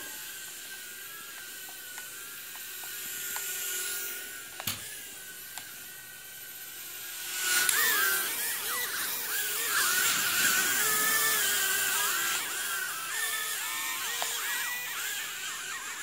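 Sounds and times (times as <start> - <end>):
toy drone propellers whining: 0.0 - 16.0.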